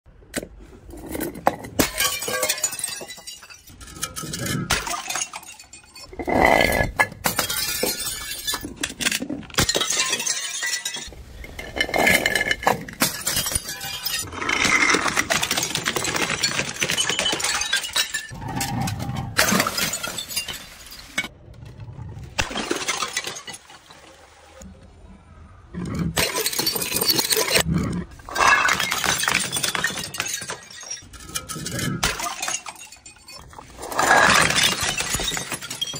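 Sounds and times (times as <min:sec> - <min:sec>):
glass bottles smashing on steps: 0:01.1 - 0:21.3, 0:22.4 - 0:23.9, 0:26.1 - 0:27.7, 0:28.3 - 0:35.9
glass shards clinking: 0:01.2 - 0:21.3, 0:26.2 - 0:27.7, 0:28.3 - 0:35.9.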